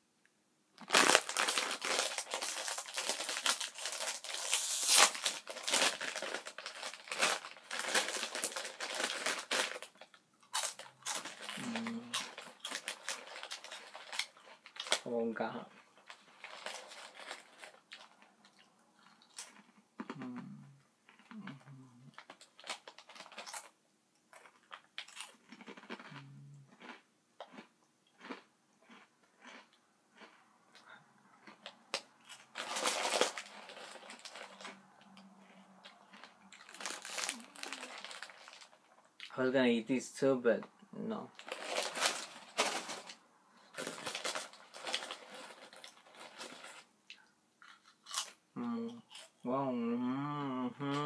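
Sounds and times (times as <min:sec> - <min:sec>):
crunching snacks: 0:00.8 - 0:39.4, 0:41.3 - 0:49.4.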